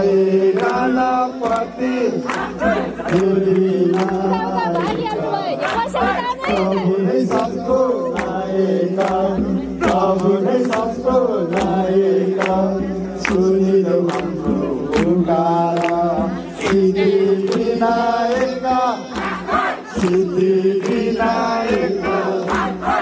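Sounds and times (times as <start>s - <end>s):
group singing: 0.0s - 23.0s
regular percussion strokes: 0.0s - 23.0s.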